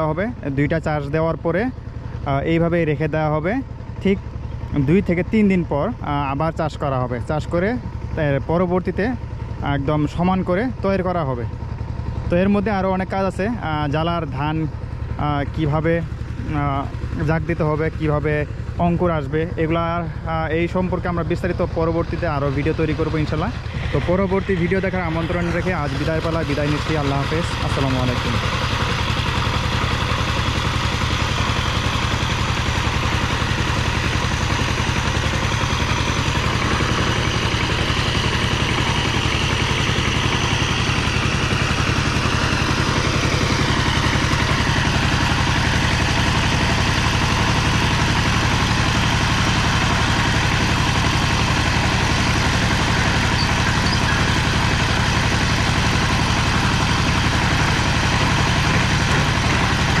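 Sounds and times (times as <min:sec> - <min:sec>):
diesel tiller engine running: 0:00.0 - 1:00.0.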